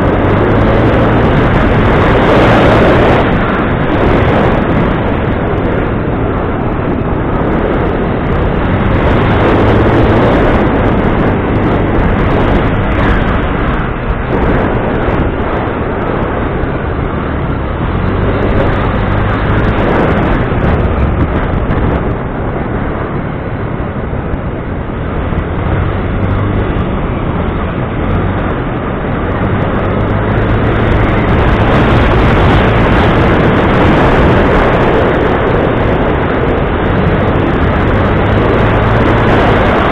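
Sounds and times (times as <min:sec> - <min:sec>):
loud rushing noise: 0:00.0 - 0:39.9
vehicle engine running: 0:00.0 - 0:39.9.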